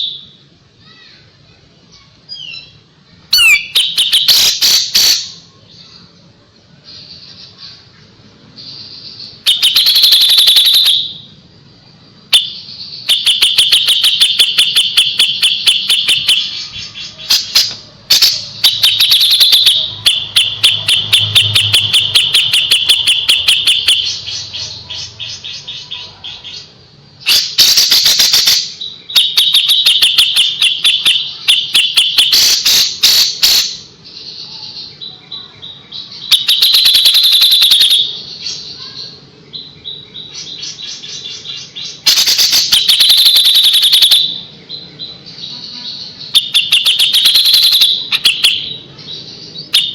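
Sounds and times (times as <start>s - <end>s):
bulbul singing sharp notes: 2.3s - 6.0s, 8.5s - 25.9s, 26.6s - 34.4s, 36.0s - 45.4s, 46.1s - 49.9s.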